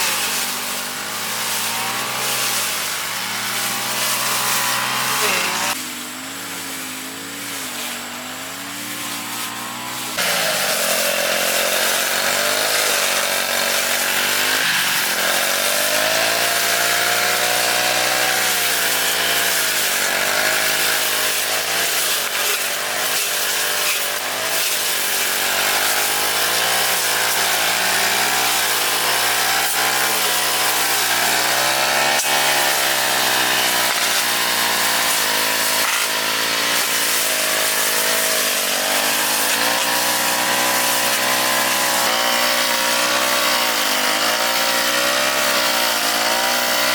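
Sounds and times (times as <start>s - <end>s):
lawn mower engine cutting grass: 0.0s - 46.9s.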